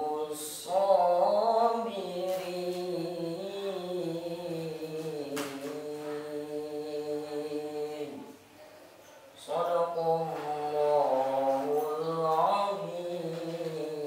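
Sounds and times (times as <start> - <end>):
boy reciting melodically: 0.0 - 14.0.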